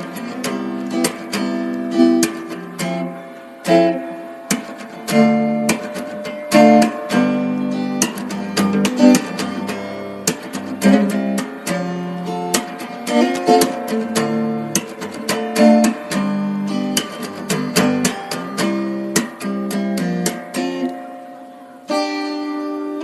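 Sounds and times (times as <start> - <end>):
acoustic guitar picking and strumming: 0.0 - 23.0.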